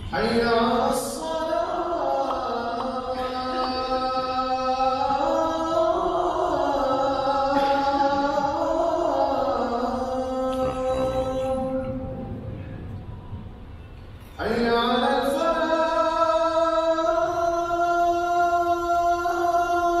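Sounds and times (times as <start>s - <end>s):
man chanting melodic recitation: 0.0s - 12.3s, 14.4s - 20.0s.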